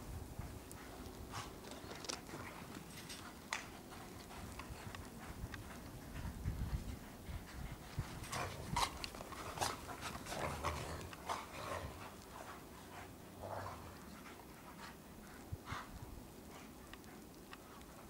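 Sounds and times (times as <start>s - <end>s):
dogs panting hard: 0.4s - 18.0s.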